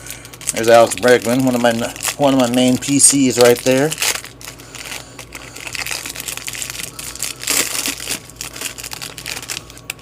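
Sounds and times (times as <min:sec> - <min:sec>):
cards and plastic rustling: 0:00.0 - 0:10.0.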